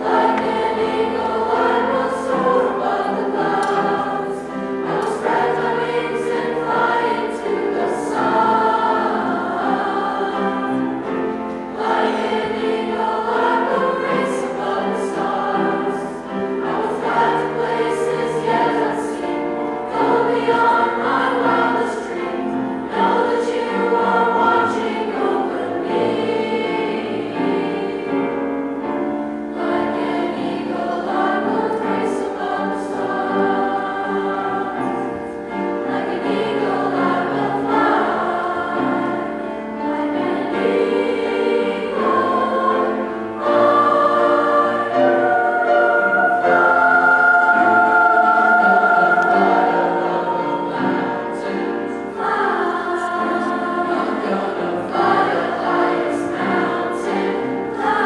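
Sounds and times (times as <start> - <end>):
piano accompaniment: 0.0 - 58.0
youth choir singing: 0.0 - 58.0.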